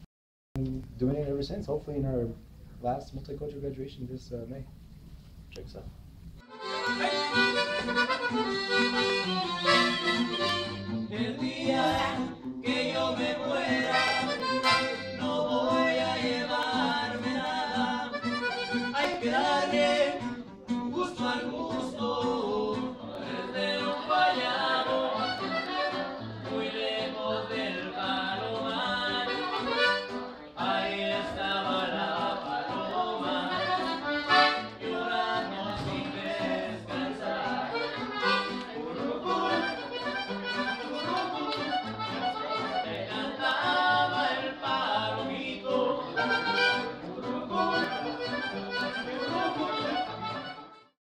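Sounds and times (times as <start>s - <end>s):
accordion melody: 6.4s - 51.0s.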